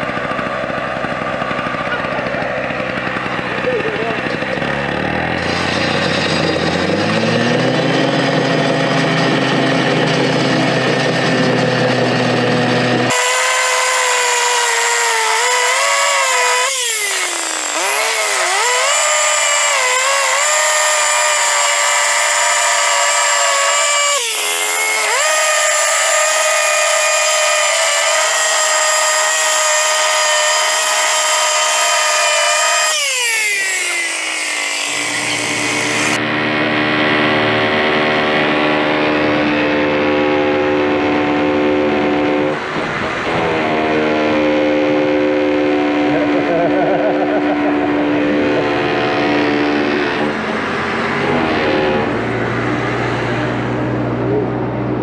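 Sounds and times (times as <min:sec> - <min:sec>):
petrol cut-off saw cutting concrete: 0:00.0 - 0:55.0.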